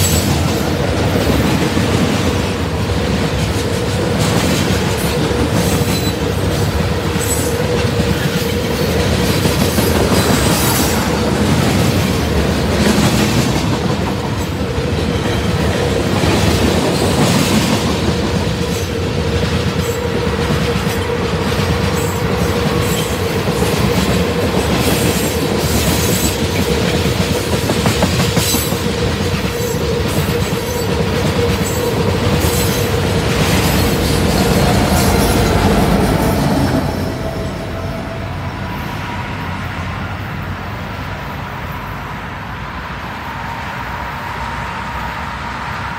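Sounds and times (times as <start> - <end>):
train wheels clicking over rail joints: 0.0 - 37.0.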